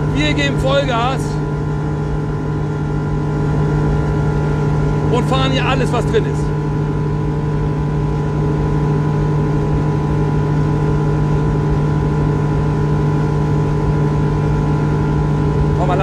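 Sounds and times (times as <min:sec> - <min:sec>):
outboard motor droning: 0:00.0 - 0:16.0
rush of wind and water: 0:00.0 - 0:16.0.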